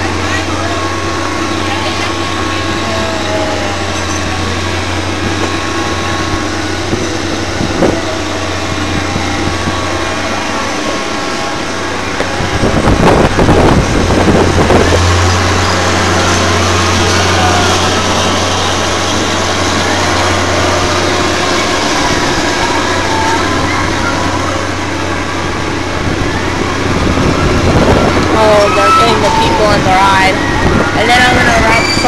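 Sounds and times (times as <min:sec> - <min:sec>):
broad noisy wash: 0:00.0 - 0:32.0
machinery and generators humming: 0:00.0 - 0:32.0.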